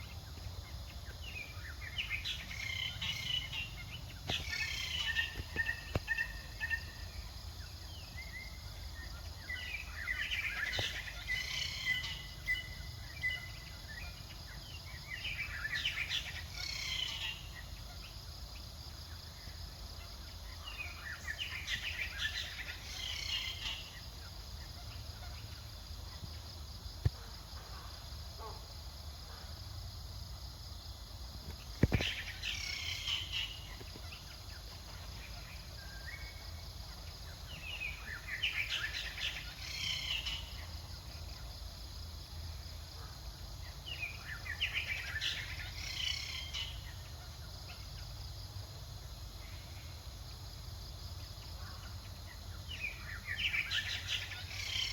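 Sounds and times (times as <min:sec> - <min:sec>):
low background noise: 0:00.0 - 0:54.9.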